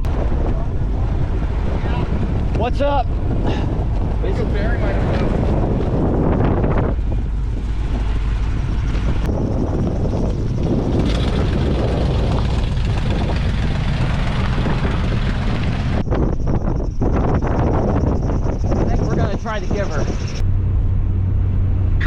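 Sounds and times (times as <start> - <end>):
road noise: 0.0 - 22.0
truck engine rumble: 0.0 - 22.0.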